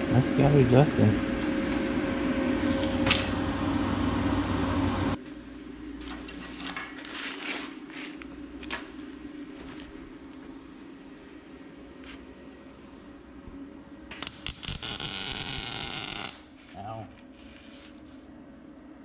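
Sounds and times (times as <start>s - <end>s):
machine hum with tones: 0.0s - 19.0s.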